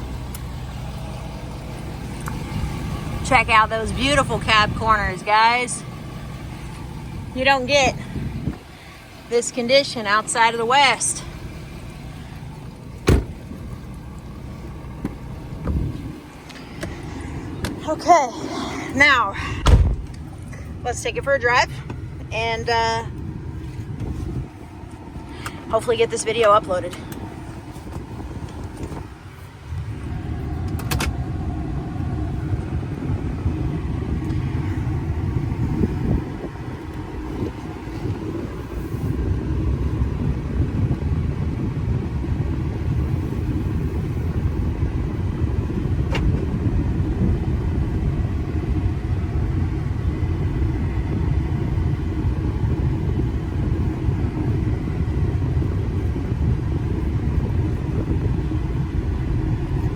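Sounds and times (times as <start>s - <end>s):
diesel truck engine droning: 0.0s - 59.9s
road noise: 0.0s - 59.9s.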